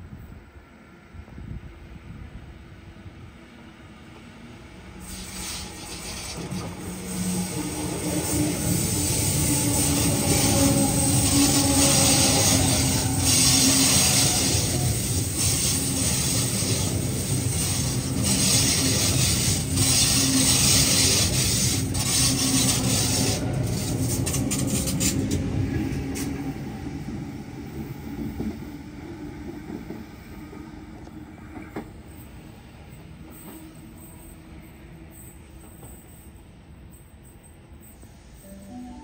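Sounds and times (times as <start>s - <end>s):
train wheels rumbling on rail: 1.2s - 38.4s
crackling rail noise: 3.4s - 39.0s.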